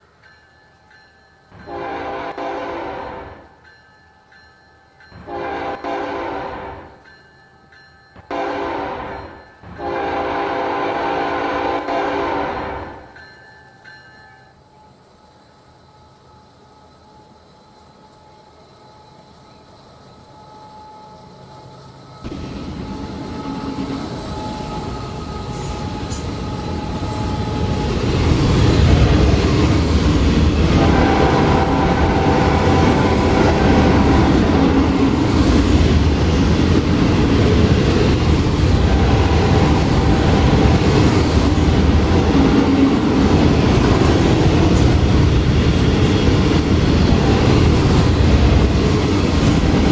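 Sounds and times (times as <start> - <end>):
train wheels rumbling on rails: 5.0 - 49.9.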